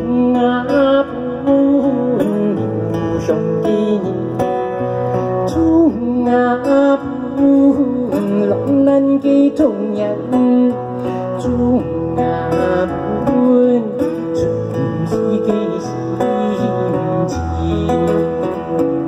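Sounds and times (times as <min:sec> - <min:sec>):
moon guitar plucked and strummed: 0:00.0 - 0:19.0.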